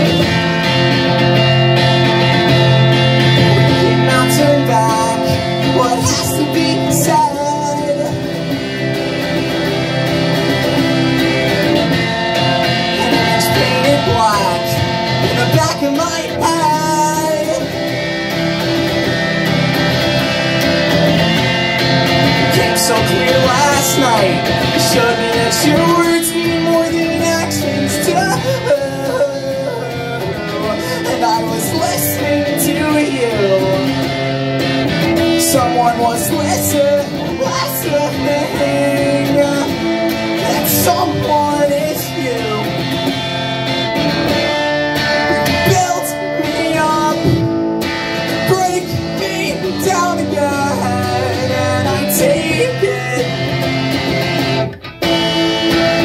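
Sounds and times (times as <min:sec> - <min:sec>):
person singing: 0:00.0 - 0:54.1
electric guitar rock song: 0:00.0 - 0:56.0.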